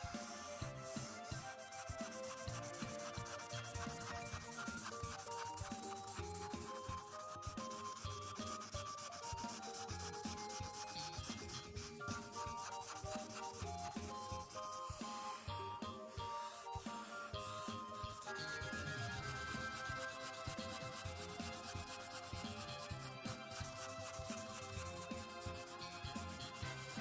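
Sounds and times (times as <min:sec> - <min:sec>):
background music with simple melody: 0:00.0 - 0:27.0
marker rubbing on paper: 0:00.0 - 0:27.0.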